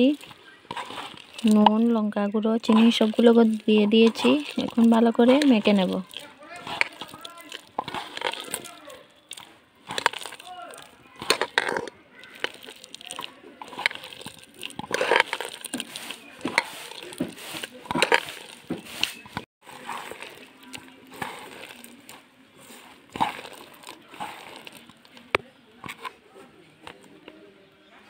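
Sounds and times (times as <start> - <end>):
wet squelching and crunching: 0.0 - 26.2.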